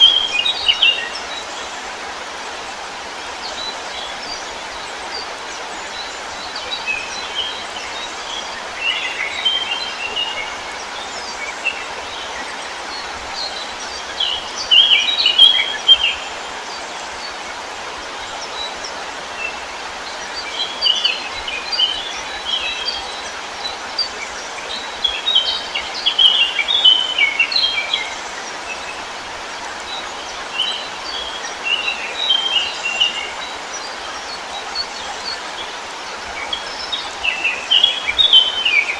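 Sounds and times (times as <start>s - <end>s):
rushing water or wind: 0.0s - 38.9s
songbirds twittering: 0.0s - 38.9s.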